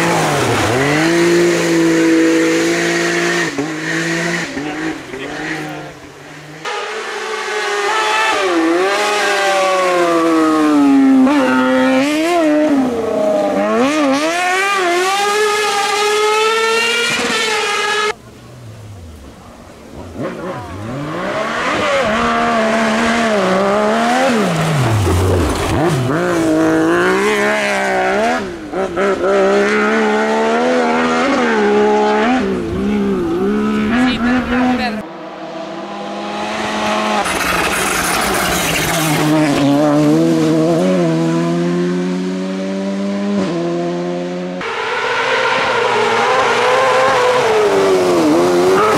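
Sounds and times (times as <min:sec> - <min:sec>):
high-revving buggy engines: 0:00.0 - 0:48.9.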